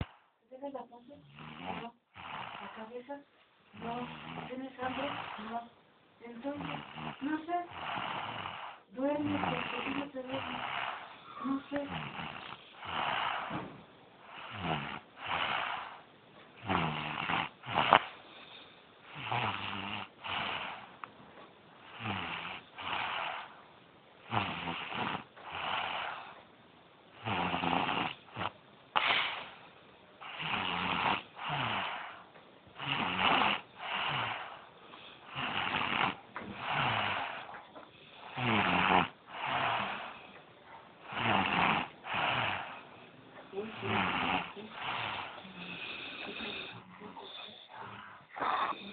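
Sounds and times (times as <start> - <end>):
person snoring: 1.2 - 3.0, 3.8 - 5.6, 6.4 - 13.7, 14.3 - 20.9, 21.8 - 23.6, 24.2 - 26.4, 27.2 - 29.6, 30.2 - 32.2, 32.8 - 40.4, 41.0 - 48.9.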